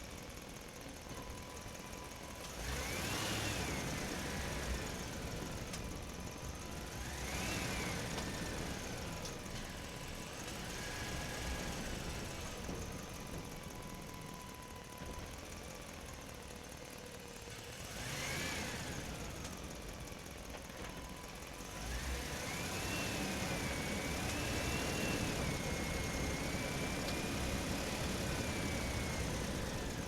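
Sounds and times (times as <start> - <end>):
truck engine: 0.0 - 30.0.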